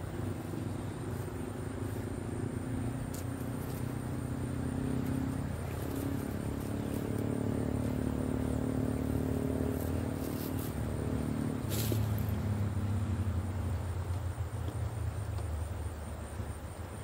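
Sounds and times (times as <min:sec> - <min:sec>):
insects trilling: 0:00.0 - 0:17.0
vehicle engine running: 0:00.0 - 0:17.0.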